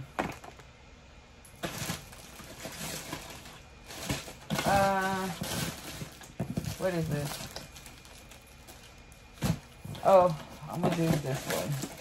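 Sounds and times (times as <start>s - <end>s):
packages rustling: 1.5s - 12.0s.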